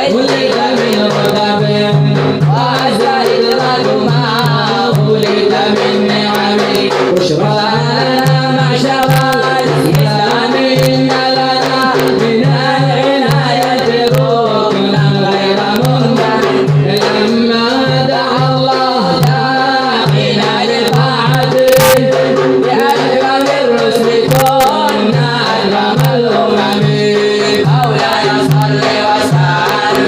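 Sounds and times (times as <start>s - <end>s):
man singing devotional song: 0.0s - 30.0s
percussion beat: 0.0s - 30.0s.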